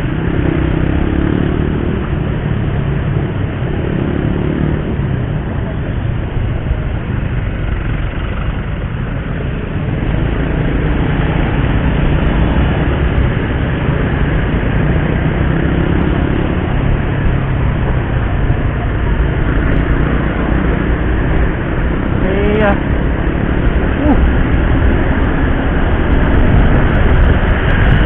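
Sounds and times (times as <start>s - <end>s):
motorcycle engine road and wind noise: 0.0s - 28.0s.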